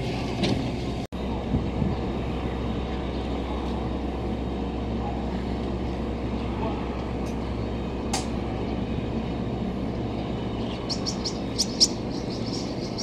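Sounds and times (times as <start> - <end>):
electric train equipment hum: 0.0 - 13.0.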